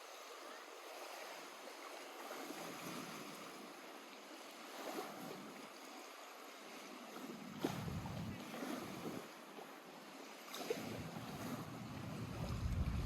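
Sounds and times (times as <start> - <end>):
lake waves lapping at shore: 0.0 - 13.0.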